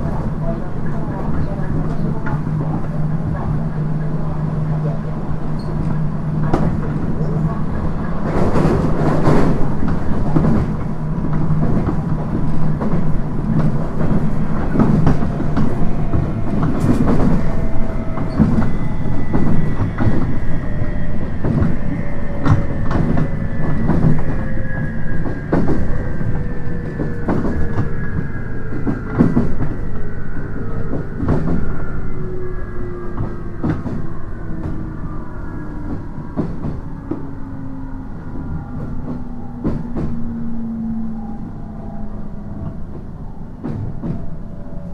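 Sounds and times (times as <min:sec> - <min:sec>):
train rumble: 0:00.0 - 0:44.9.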